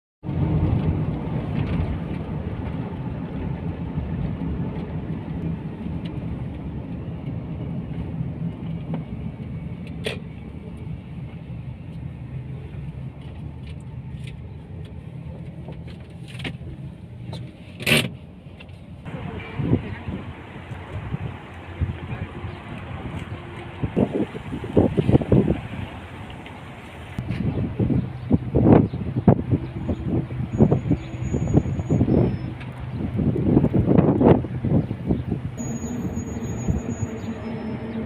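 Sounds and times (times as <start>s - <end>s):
car road and engine rumble: 0.2s - 38.0s.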